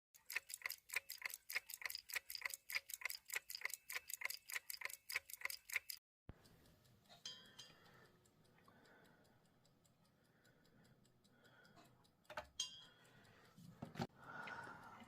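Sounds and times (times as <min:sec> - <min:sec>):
clock ticking: 0:00.2 - 0:15.0.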